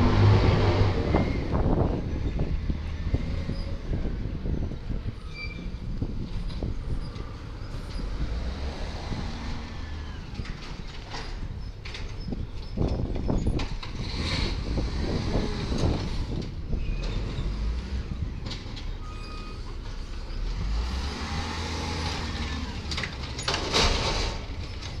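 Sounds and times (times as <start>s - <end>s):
truck body clanks and rattles: 0.0s - 20.7s, 21.9s - 25.0s
garbage truck diesel engine: 0.0s - 25.0s.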